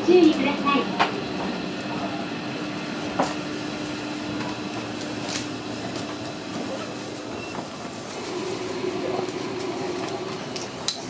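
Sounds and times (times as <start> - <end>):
electric train humming: 0.0 - 11.0.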